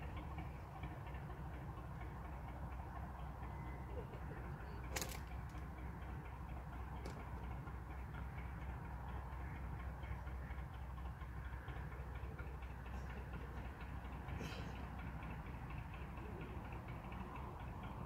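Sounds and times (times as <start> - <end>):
diesel boat engine rumbling: 0.0 - 18.0.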